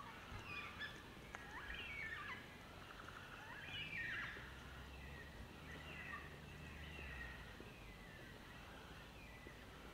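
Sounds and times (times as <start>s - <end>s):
birds whistling: 0.0s - 9.9s
faint low rumble: 0.0s - 9.9s.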